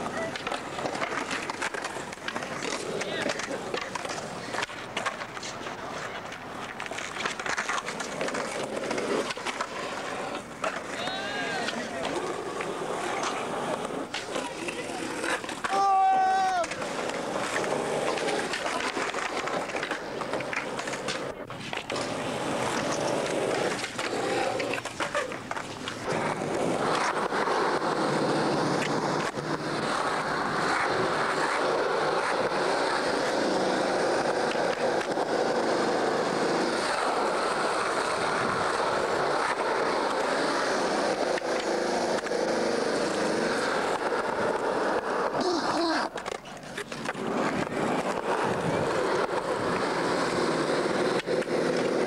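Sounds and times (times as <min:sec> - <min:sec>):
skateboard clacks: 0:00.0 - 0:52.0
skateboard wheels rolling on concrete: 0:00.0 - 0:52.0.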